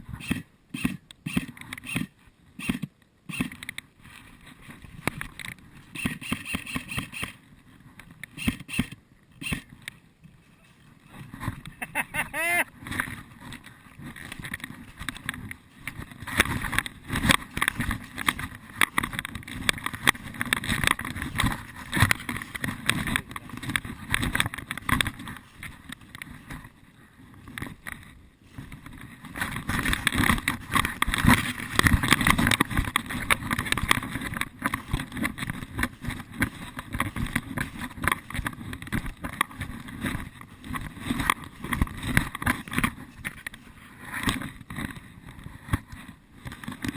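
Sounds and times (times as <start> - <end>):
dense rustling and crackling: 3.6 - 46.9.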